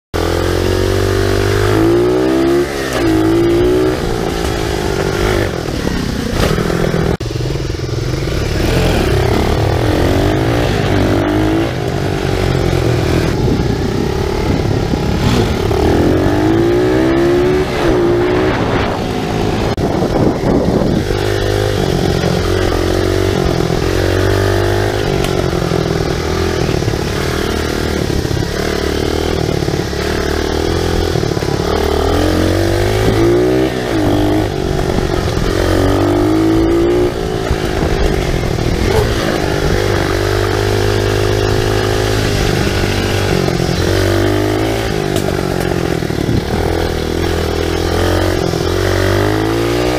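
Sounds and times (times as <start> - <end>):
bike rattling: 0.2 - 49.9
motorbike engine revving: 0.2 - 49.9.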